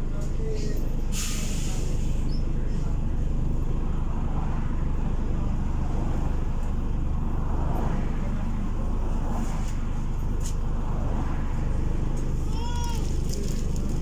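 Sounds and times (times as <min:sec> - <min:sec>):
bus diesel engine rumble: 0:00.0 - 0:14.0.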